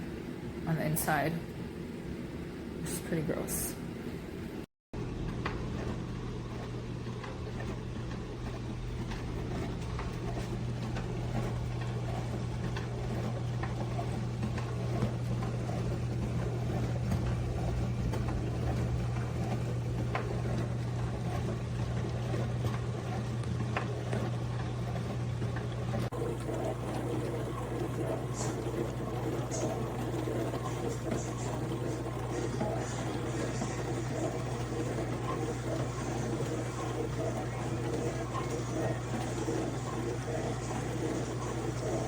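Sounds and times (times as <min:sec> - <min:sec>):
dishwasher motor hum: 0:00.0 - 0:42.0.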